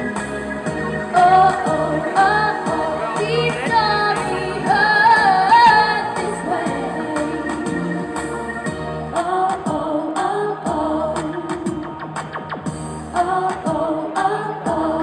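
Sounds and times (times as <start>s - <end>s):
backing track: 0.0s - 15.0s
woman singing pop song: 1.0s - 8.5s, 9.1s - 12.5s, 13.1s - 15.0s.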